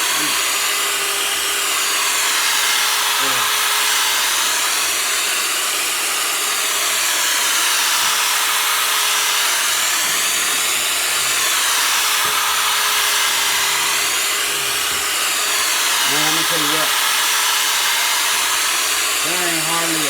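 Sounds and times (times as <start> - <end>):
power drill sanding plastic: 0.0 - 20.0.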